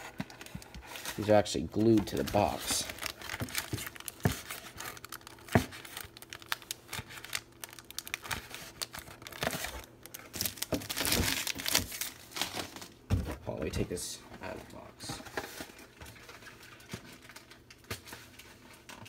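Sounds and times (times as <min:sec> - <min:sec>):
foil pack crinkling and tearing: 0:00.0 - 0:13.0, 0:15.4 - 0:19.0.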